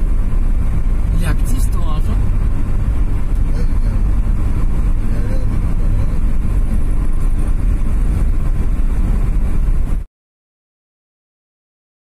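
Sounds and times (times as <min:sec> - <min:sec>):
car engine and road noise: 0:00.0 - 0:10.1.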